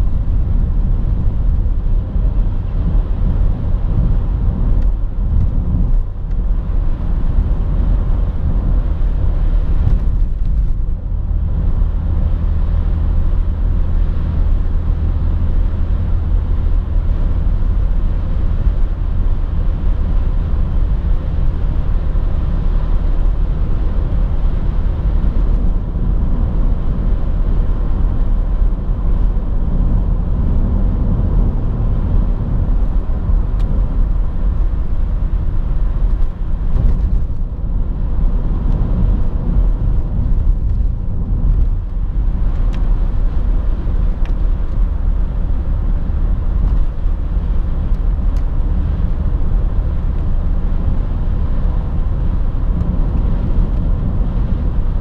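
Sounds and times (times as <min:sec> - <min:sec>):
car engine droning in cabin: 0:00.0 - 0:55.0
tyre and road noise: 0:00.0 - 0:55.0.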